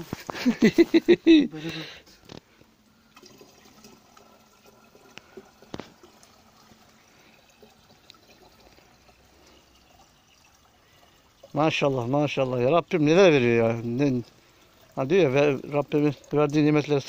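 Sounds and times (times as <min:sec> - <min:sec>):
water trickling into plastic jug: 0:00.0 - 0:17.0.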